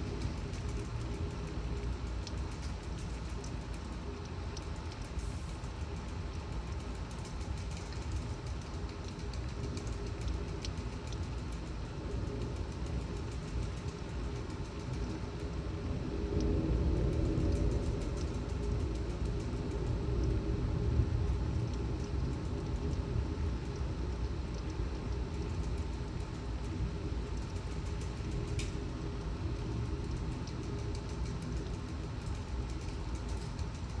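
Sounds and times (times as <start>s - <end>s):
gusting wind: 0.0s - 34.0s
raindrops ticking: 0.0s - 34.0s
torrential rain: 0.0s - 34.0s.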